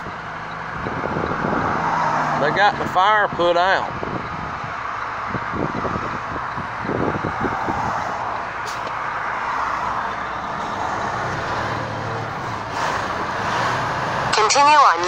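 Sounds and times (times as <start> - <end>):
highway traffic: 0.0 - 15.0.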